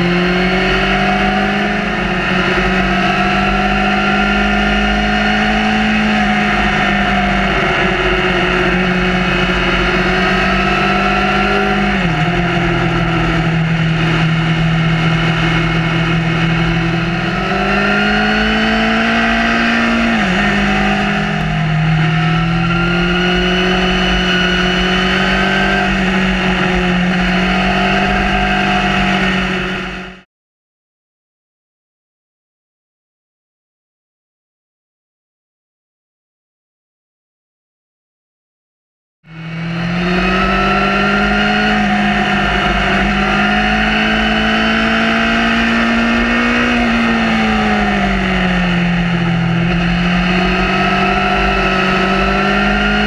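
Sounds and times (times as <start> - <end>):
wind rumble: 0.0 - 30.2, 39.4 - 53.0
motorcycle engine accelerating: 0.0 - 30.3, 39.3 - 53.0.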